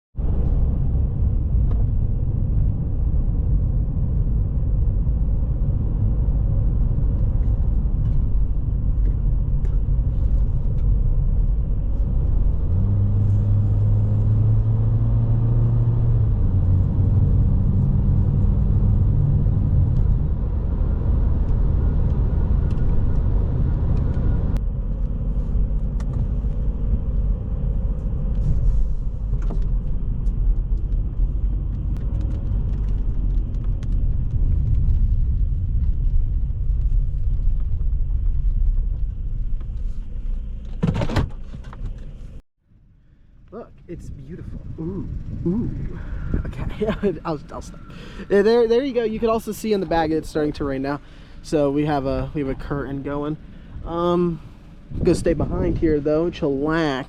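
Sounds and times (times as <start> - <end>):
car road and engine rumble: 0.1 - 57.0
steady low hum: 0.2 - 57.0.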